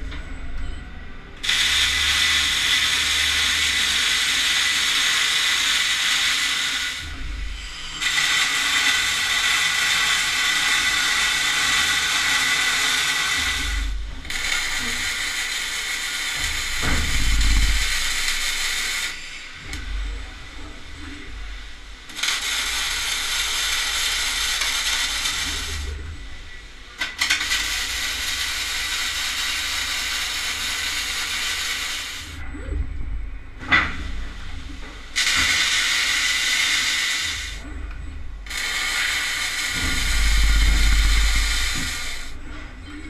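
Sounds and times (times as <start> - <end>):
welding arc crackling and hissing: 1.4 - 32.4, 35.1 - 37.7, 38.5 - 42.4.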